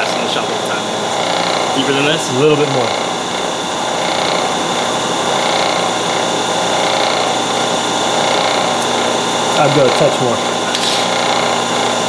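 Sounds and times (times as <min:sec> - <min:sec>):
milling machine running: 0:00.0 - 0:12.0.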